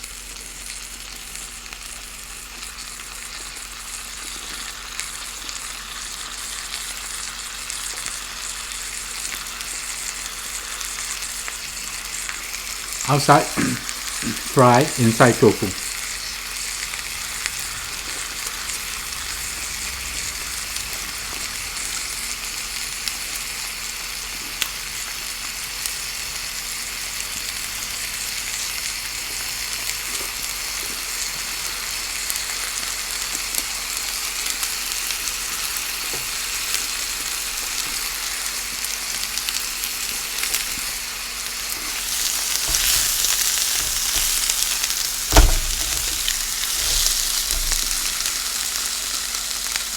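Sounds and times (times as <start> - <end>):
tofu sizzling in hot oil: 0.0 - 14.3, 15.2 - 49.9.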